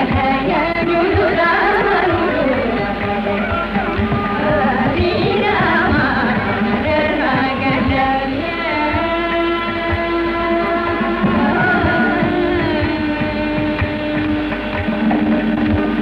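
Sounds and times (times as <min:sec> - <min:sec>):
women singing: 0:00.0 - 0:14.6
instrumental accompaniment: 0:00.0 - 0:16.0.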